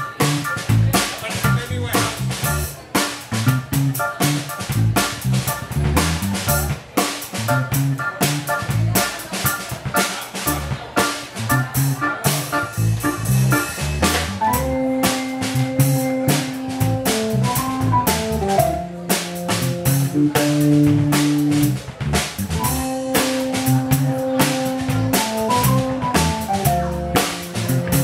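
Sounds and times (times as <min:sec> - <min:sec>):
electric organ: 0:00.0 - 0:01.1, 0:02.2 - 0:06.8, 0:07.4 - 0:21.8, 0:22.5 - 0:28.0
drum kit: 0:00.0 - 0:28.0
electric bass guitar: 0:00.0 - 0:28.0.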